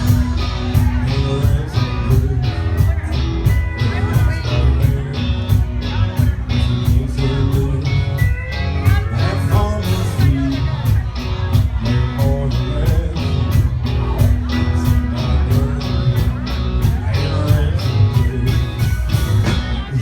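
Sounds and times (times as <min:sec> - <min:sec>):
country rock band playing: 0:00.0 - 0:20.0
drums keeping a steady beat: 0:00.0 - 0:20.0.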